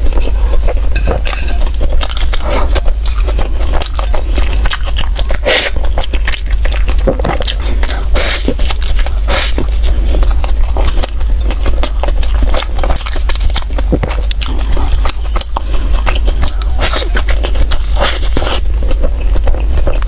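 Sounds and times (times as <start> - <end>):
person chewing food: 0.0 - 20.0
steady low hum: 0.0 - 20.0.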